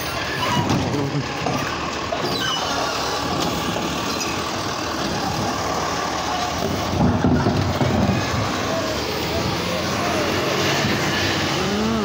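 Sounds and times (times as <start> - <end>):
hydraulic arm emptying trash cart: 0.0 - 11.4
garbage truck running: 0.0 - 12.0.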